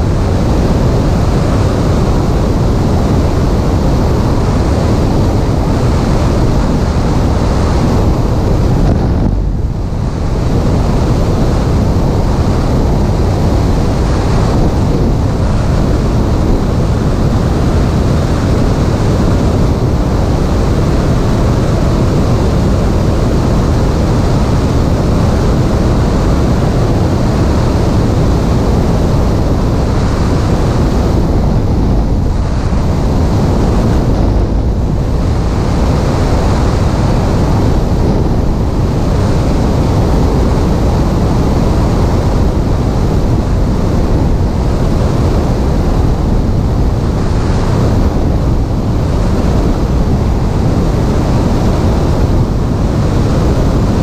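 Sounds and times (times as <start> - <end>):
wind rush over microphone: 0.0 - 54.0.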